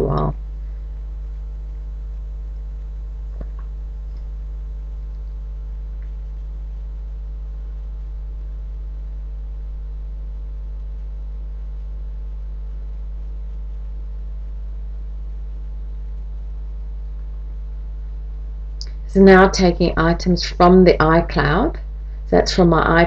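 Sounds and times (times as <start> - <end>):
mains hum: 0.0 - 23.0.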